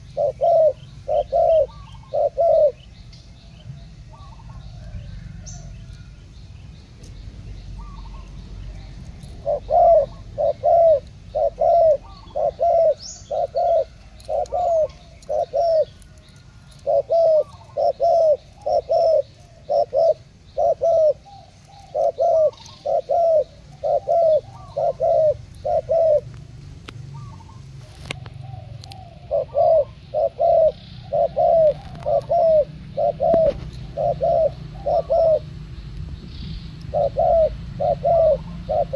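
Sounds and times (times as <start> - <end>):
doves cooing: 0.0 - 6.2, 7.8 - 35.8, 36.7 - 38.9
small birds chirping: 0.0 - 38.9.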